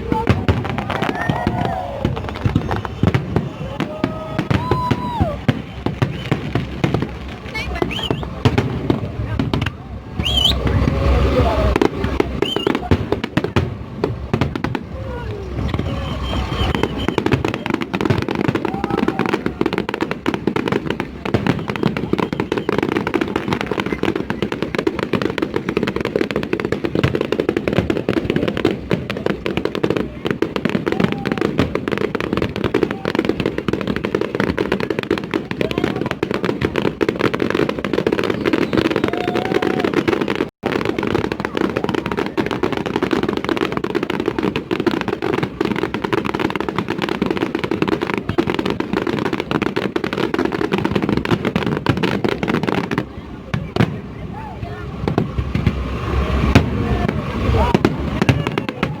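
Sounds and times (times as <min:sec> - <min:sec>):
fireworks crackling and popping: 0:00.0 - 0:59.0.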